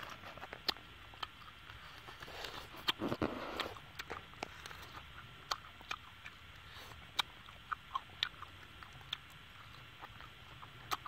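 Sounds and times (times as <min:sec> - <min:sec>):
chewing with lip smacks: 0:00.0 - 0:11.0.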